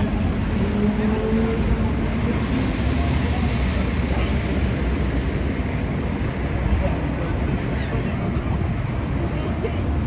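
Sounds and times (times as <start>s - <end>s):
faint voices of passers-by: 0.0s - 10.0s
traffic rumble: 0.0s - 10.0s.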